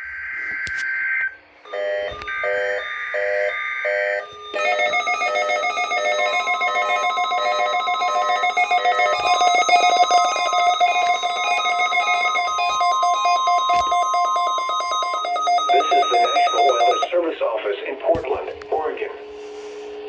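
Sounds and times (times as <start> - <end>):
steady warning alarm tone: 0.0 - 20.0
continuous ringing electronic alert: 0.3 - 17.3.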